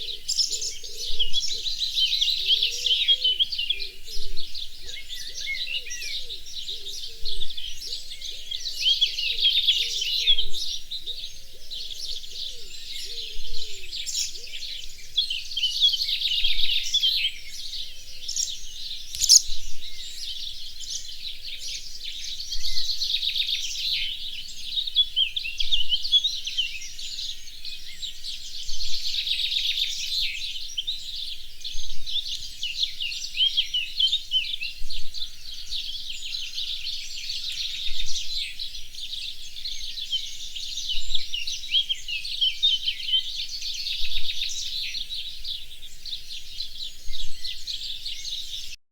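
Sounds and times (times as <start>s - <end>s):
bird singing rapid high phrases: 0.0s - 48.8s
birds chirping: 0.0s - 48.8s
low curved bird calls: 0.0s - 48.8s.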